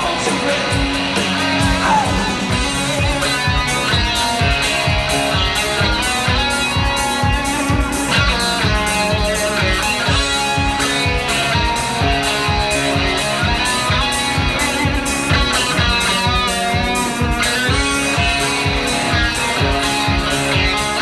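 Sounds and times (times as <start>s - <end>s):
bass guitar: 0.0s - 21.0s
drum beat: 0.0s - 21.0s
electric guitar strumming: 0.0s - 21.0s.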